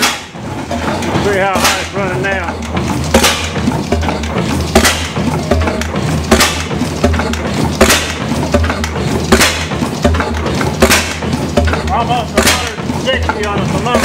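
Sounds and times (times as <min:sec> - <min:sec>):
two-cycle engine running: 0:00.0 - 0:14.0.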